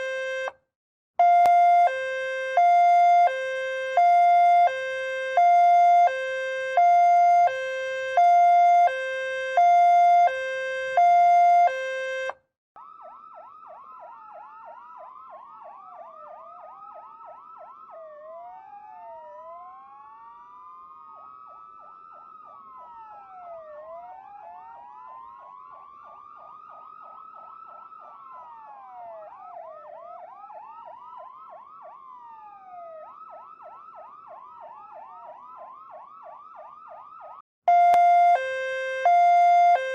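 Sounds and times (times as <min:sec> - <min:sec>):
two-tone ambulance siren: 0:00.0 - 0:00.6, 0:01.2 - 0:39.9
wailing sirens: 0:00.0 - 0:00.6, 0:01.2 - 0:39.9
yelping siren: 0:00.0 - 0:00.6, 0:01.2 - 0:39.9.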